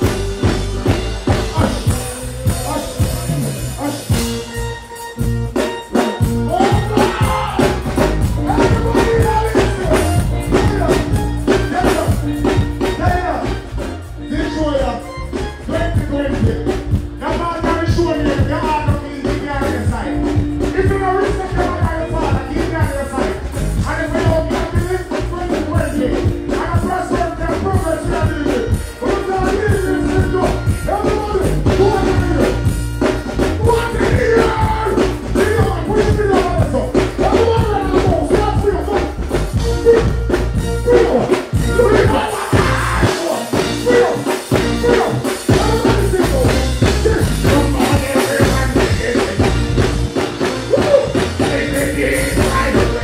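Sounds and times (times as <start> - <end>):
man singing into microphone: 0.0 - 4.2, 6.5 - 11.0, 15.7 - 32.6, 33.6 - 49.7, 50.7 - 53.0
reggae backing track: 0.0 - 53.0.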